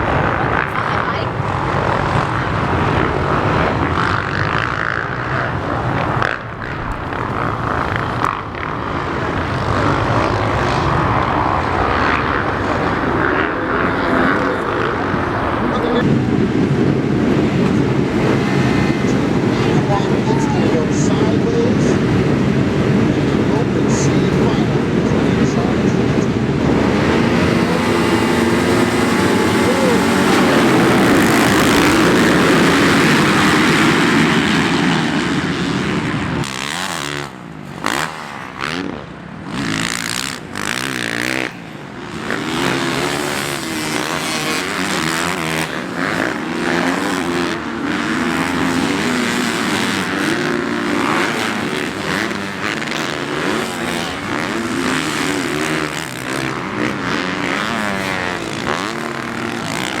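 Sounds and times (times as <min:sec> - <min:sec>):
motorcycle engines revving: 0:00.0 - 1:00.0.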